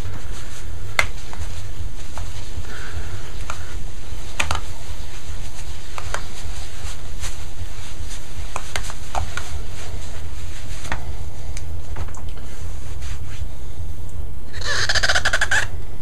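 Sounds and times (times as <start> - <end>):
pad rubbing on bowling ball: 0.0 - 13.5
low hum: 0.0 - 16.0.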